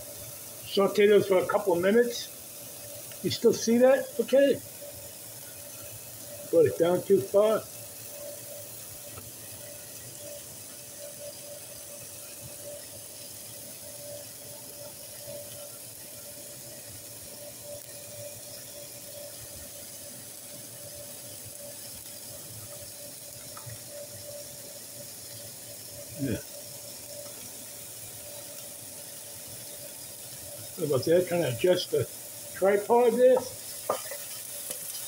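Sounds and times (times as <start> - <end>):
faint steady hum: 0.0 - 35.0
vegetables sizzling in skillet: 0.0 - 35.0.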